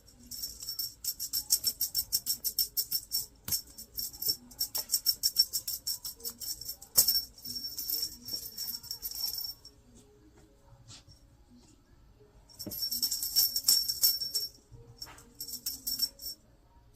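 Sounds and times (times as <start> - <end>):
small bell jingling: 0.0 - 9.8, 12.5 - 16.4.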